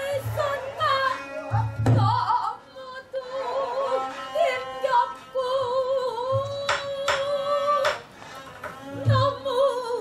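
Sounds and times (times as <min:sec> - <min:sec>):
woman singing long wavering notes: 0:00.0 - 0:07.9, 0:08.9 - 0:10.0
traditional instrumental accompaniment: 0:00.0 - 0:10.0.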